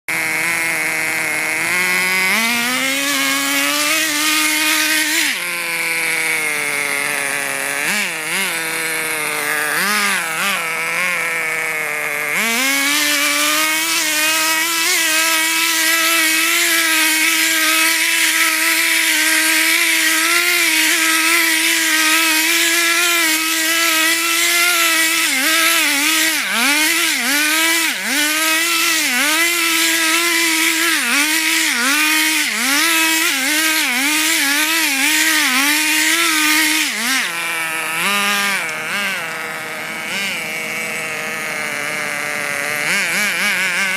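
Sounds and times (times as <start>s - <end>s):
remote control car motor revving: 0.1s - 43.9s.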